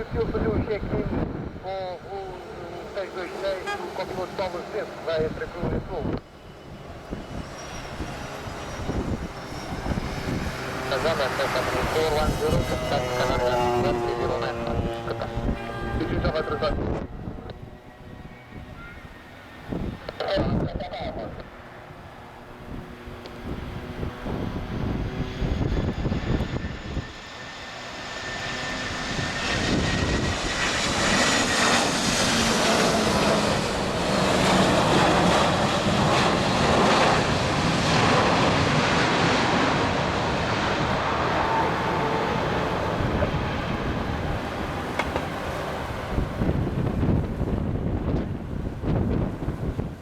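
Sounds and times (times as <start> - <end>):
wind buffeting microphone: 0.0 - 2.2, 5.2 - 27.4, 28.2 - 50.0
jet airliner passing: 0.0 - 50.0.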